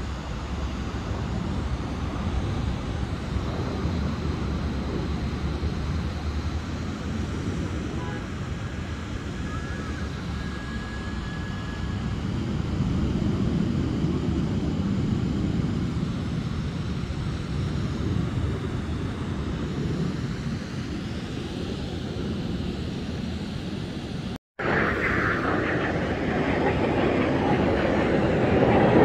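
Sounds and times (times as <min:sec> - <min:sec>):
aircraft engine rumble overhead: 0:00.0 - 0:29.0.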